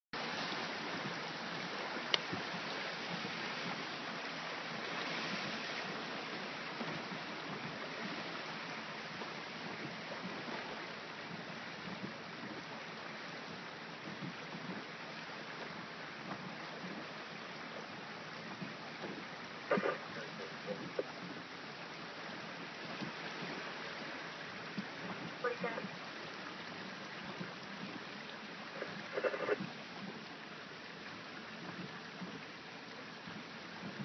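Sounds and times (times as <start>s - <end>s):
floodwater rushing in creek: 0.2s - 34.0s.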